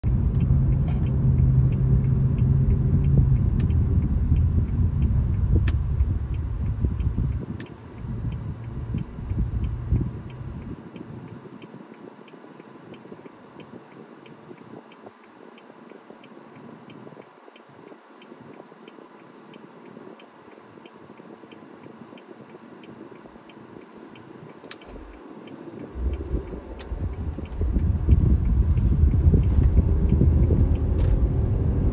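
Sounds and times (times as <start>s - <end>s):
car road and engine rumble: 0.0s - 31.9s
faint ticking: 0.1s - 31.0s.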